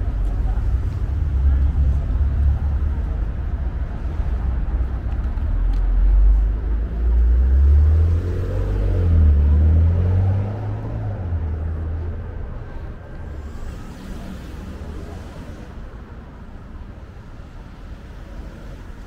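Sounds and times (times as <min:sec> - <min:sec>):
vehicle engine rumble passing: 0:00.0 - 0:19.0.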